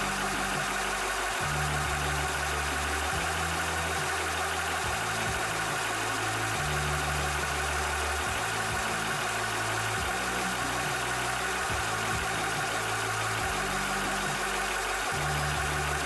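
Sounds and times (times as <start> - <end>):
air compressor running: 0.0 - 16.0.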